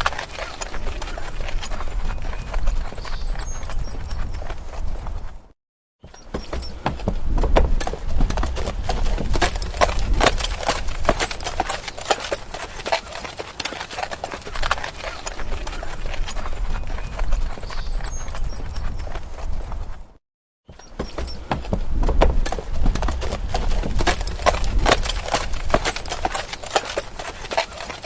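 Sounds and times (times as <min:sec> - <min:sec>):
horse hooves clip-clopping: 0:00.0 - 0:20.2, 0:20.8 - 0:28.0.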